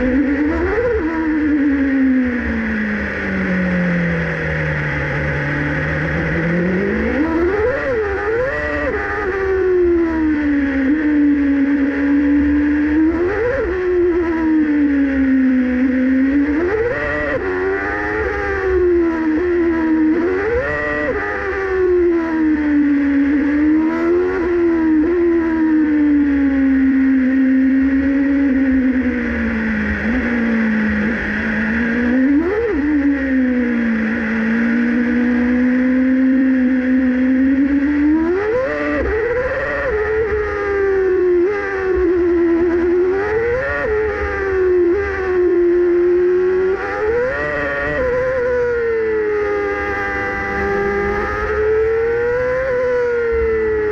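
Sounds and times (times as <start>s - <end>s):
racing car engine revving: 0.0s - 53.9s.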